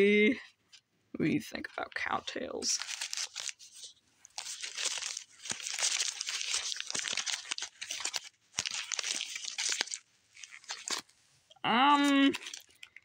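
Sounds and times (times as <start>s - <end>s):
plastic wrappers crinkling: 1.7s - 13.0s.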